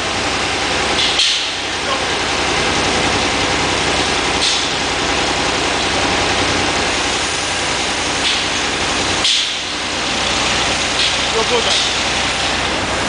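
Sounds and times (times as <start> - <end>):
heavy engine drone: 0.0 - 13.0.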